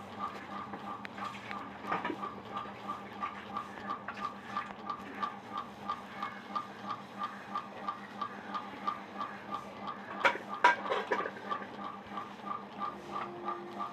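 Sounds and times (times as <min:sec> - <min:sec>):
rhythmic ticking: 0:00.0 - 0:13.9.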